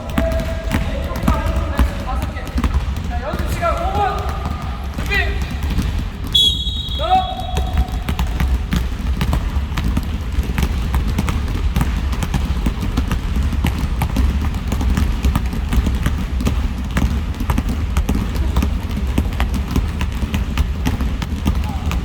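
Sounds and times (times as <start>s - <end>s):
basketballs bouncing on gym floor: 0.0s - 22.0s.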